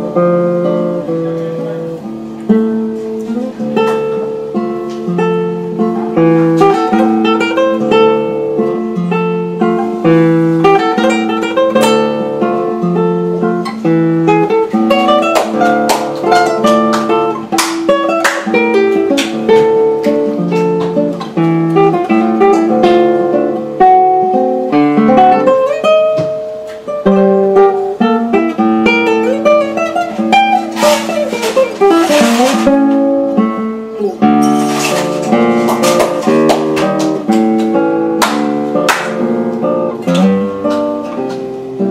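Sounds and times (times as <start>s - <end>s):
classical guitar fingerstyle: 0.0s - 41.9s
strummed guitar chords: 0.0s - 41.9s.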